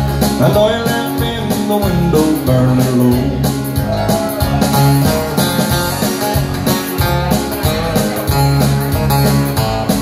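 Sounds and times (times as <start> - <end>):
backing track: 0.0 - 10.0
electric guitar melody: 0.0 - 10.0
steady bass line: 0.0 - 10.0.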